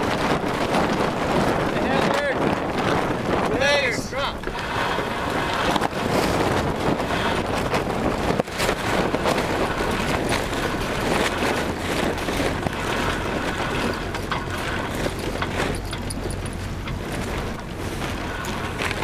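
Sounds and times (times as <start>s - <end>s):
sail cloth flapping: 0.0s - 19.0s
wind on microphone: 0.0s - 19.0s.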